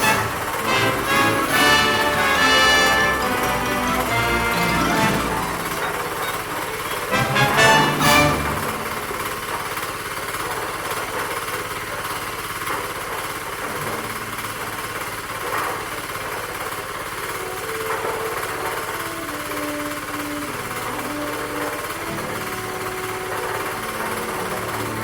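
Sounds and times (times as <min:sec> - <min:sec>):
concrete mixer rattling: 0:00.0 - 0:25.0.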